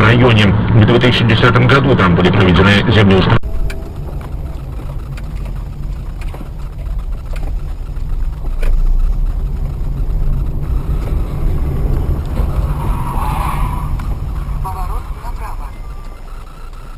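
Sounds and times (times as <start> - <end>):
road noise: 0.0 - 16.9
vehicle engine rumble: 0.0 - 16.9.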